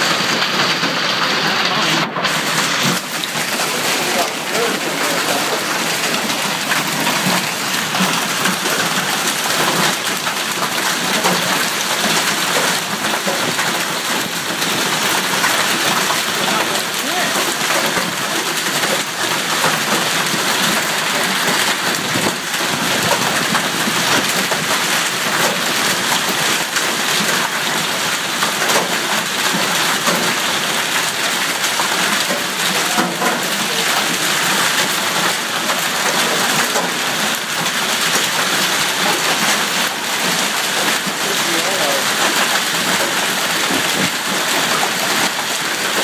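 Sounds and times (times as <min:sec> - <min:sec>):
hailstones clicking and knocking: 0:00.0 - 0:46.0
heavy rain hissing: 0:00.0 - 0:46.0.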